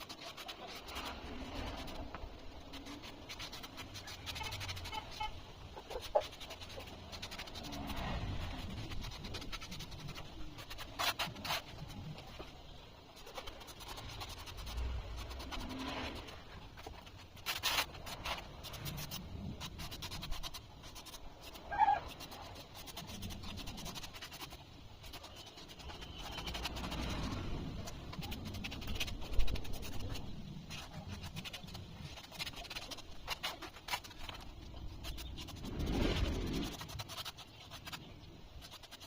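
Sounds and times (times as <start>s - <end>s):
hands scratching foam: 0.0s - 39.0s.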